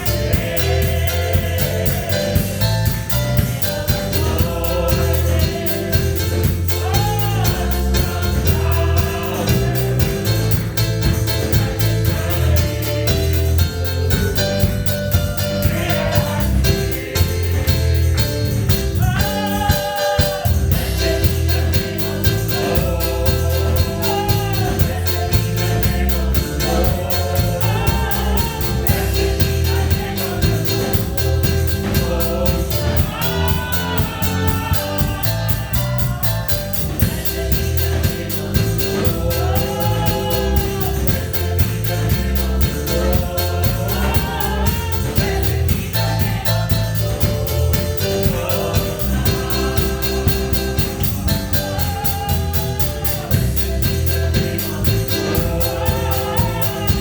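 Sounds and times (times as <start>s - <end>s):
band with drums and bass: 0.0s - 57.0s
voices singing gospel: 0.0s - 57.0s.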